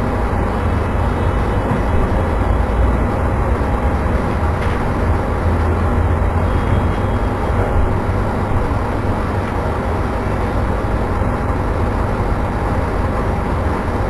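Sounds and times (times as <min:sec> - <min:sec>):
low machine rumble with hiss: 0:00.0 - 0:14.0.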